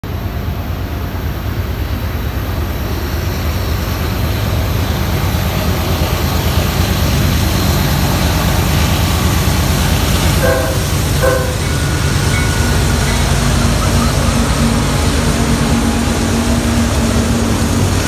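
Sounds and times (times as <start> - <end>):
locomotive engine rumble: 0.0 - 18.0.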